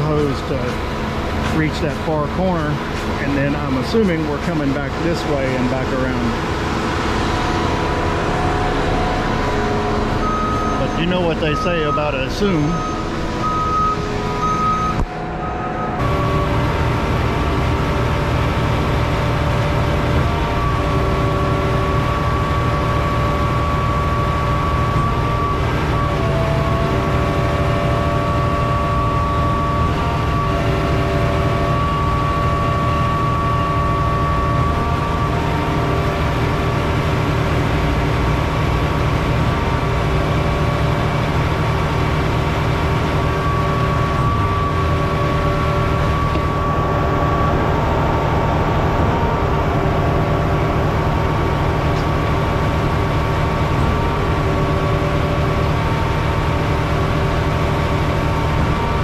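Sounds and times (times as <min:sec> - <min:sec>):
diesel engine droning: 0:00.0 - 0:59.0
high-pitched pump whine: 0:00.0 - 0:59.0.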